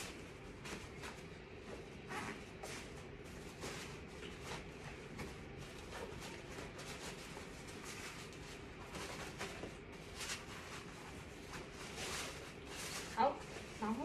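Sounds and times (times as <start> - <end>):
fabric bag rustling and swishing: 0.0 - 14.0.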